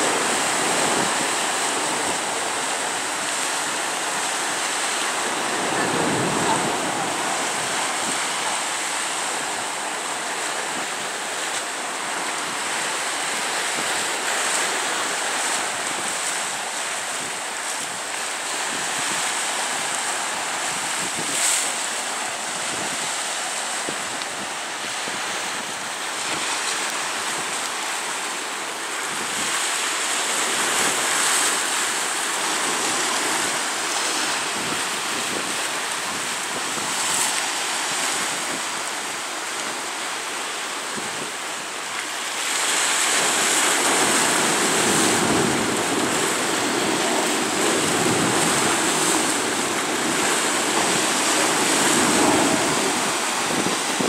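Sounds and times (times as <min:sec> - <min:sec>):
waves splashing against rocks: 0:00.0 - 0:54.0
wind: 0:00.0 - 0:54.0.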